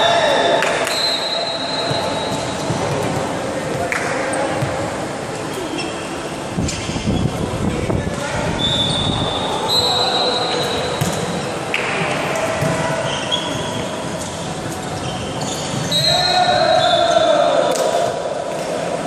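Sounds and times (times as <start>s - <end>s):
shoes squeaking on hall floor: 0.0s - 17.4s.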